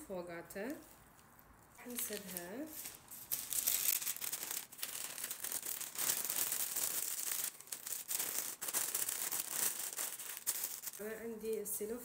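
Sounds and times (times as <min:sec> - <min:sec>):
baking paper crinkling: 0:00.6 - 0:11.8.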